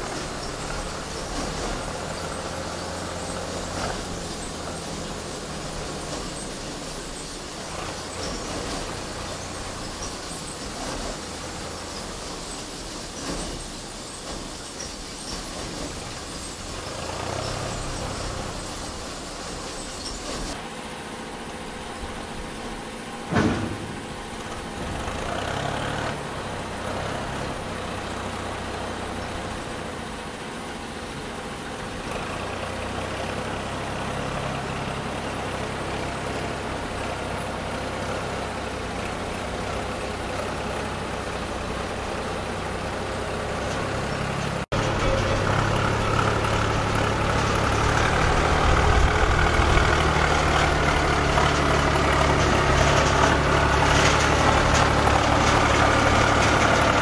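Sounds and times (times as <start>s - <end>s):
tractor loader engine running: 0.0s - 57.0s.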